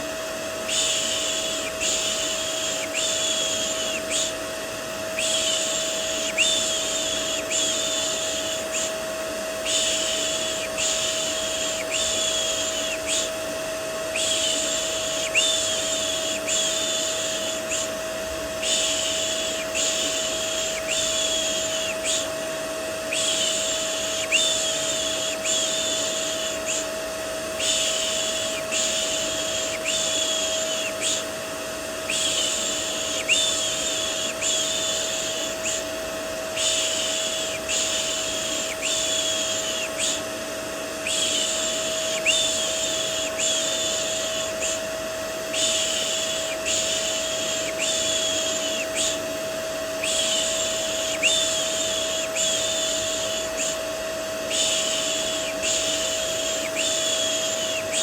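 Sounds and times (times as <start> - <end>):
vacuum cleaner humming: 0.0 - 58.0.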